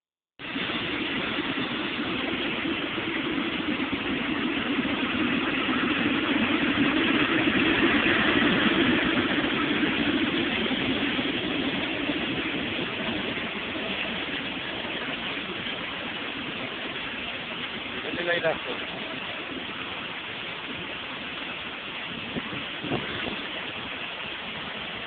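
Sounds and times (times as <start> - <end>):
jet engine rush and rumble: 0.2 - 25.0.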